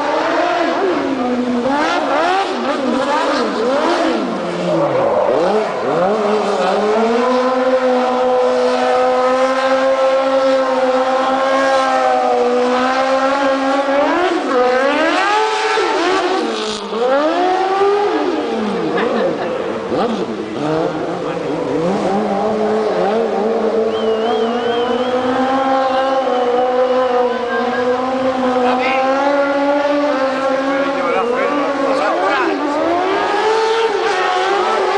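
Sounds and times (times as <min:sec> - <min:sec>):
buggy engine revving: 0:00.0 - 0:34.9.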